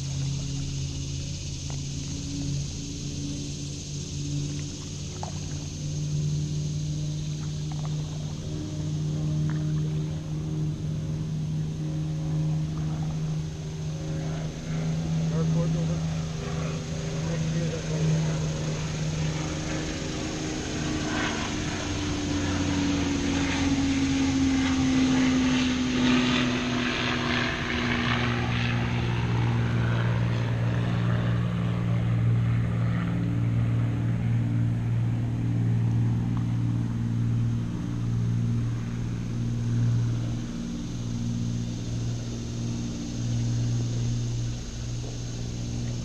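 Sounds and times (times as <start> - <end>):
engine droning: 0.0 - 46.0.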